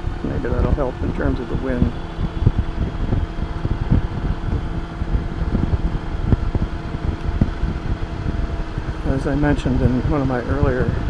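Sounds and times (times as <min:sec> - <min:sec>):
low thumps: 0:00.0 - 0:11.0
motorcycle engine hum: 0:00.0 - 0:11.0
wind buffeting microphone: 0:00.0 - 0:11.0.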